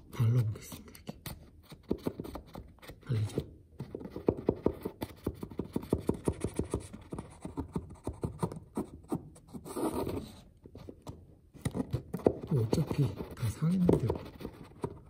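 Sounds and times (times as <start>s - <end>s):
nozzle scratching wallpaper: 0.3s - 11.0s, 11.6s - 15.0s.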